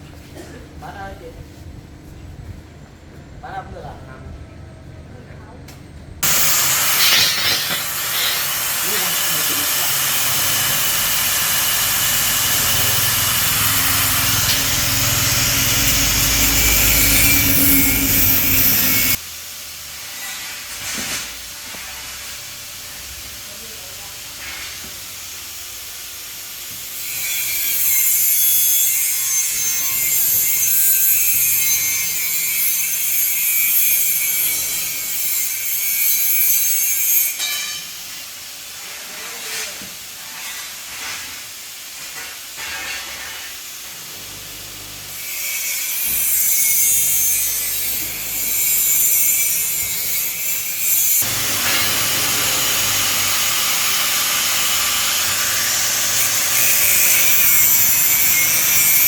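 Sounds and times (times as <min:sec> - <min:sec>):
harsh hissing metalwork noise: 0:06.2 - 0:59.0.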